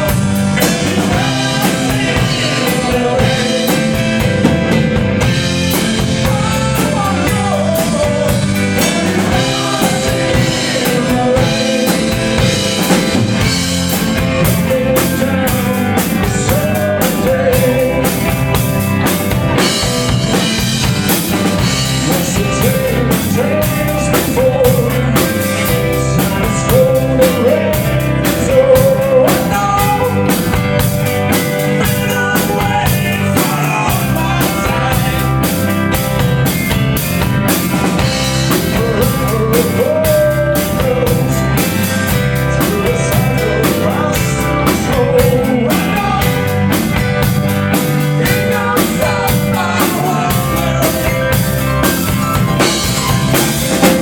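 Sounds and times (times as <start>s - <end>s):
drum kit beat: 0.0s - 54.0s
rock music: 0.0s - 54.0s.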